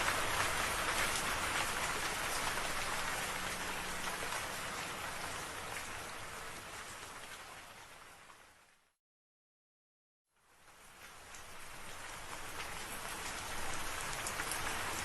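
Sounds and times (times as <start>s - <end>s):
steady rain falling: 0.0s - 9.0s, 10.4s - 15.0s.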